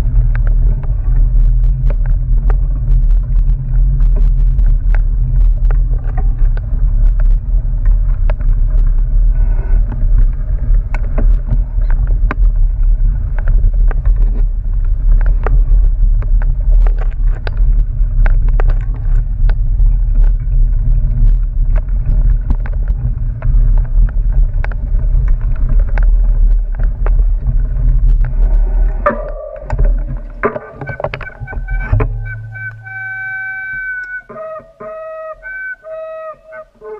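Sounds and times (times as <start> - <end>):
bike clicks and rattles: 0.0 - 33.0
wind buffeting microphone: 0.0 - 36.1
tyres rumbling on dirt trail: 0.0 - 36.6.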